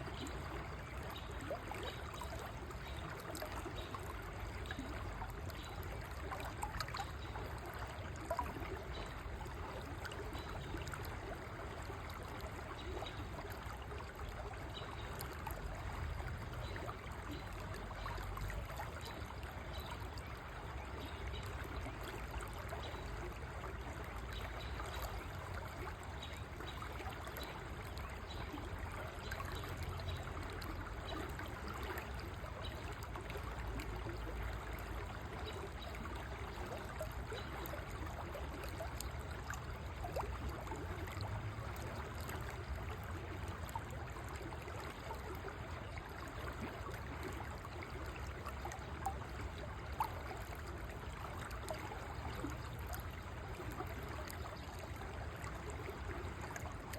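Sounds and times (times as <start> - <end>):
river water flowing over stones: 0.0 - 56.9.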